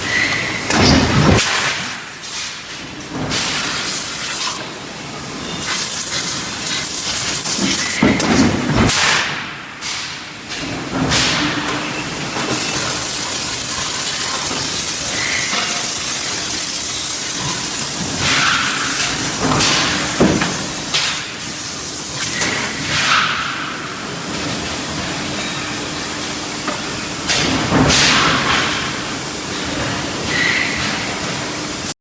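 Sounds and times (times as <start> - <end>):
loud machinery hiss: 3.3 - 8.2, 11.1 - 32.0.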